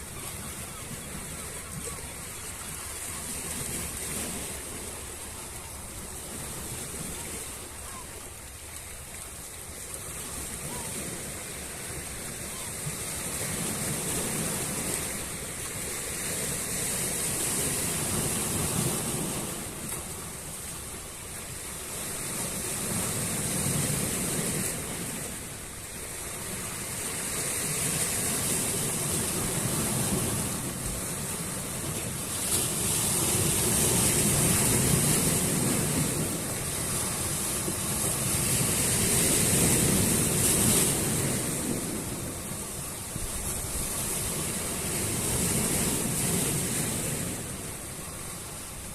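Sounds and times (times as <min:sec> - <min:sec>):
sea waves breaking on shore: 0:00.0 - 0:48.9.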